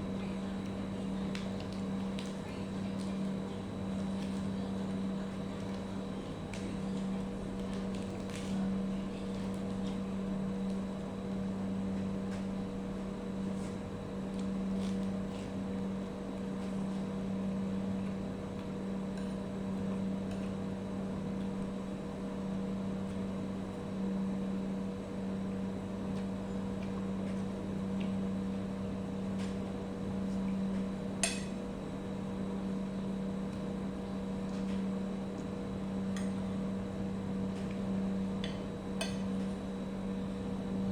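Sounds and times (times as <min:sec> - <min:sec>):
steady low motor hum: 0:00.0 - 0:40.9.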